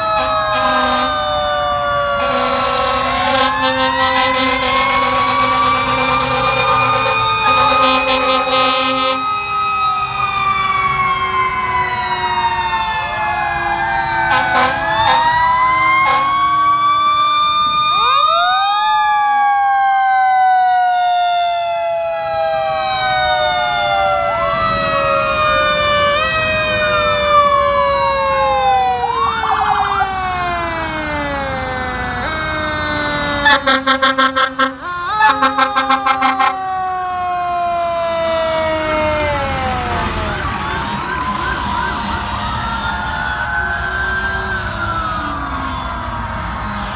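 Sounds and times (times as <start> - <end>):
fast pulsing siren: 0.0 - 46.9
fire truck sirens wailing: 0.0 - 46.9.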